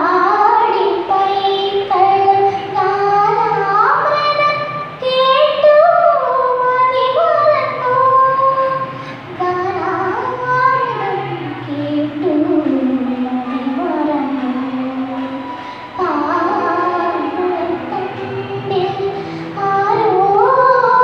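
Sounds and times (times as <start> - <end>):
girl singing into a microphone: 0.0 - 21.0.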